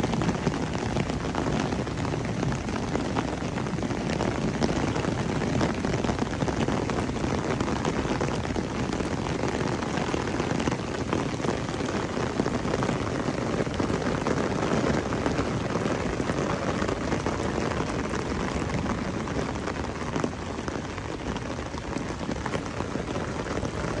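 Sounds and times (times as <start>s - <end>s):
heavy rain on hard surfaces: 0.0s - 24.0s.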